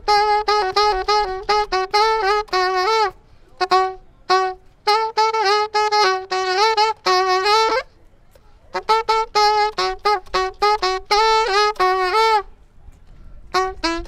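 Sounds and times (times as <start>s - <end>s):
solo saxophone playing: 0.0s - 8.0s, 8.7s - 12.6s, 13.4s - 14.0s.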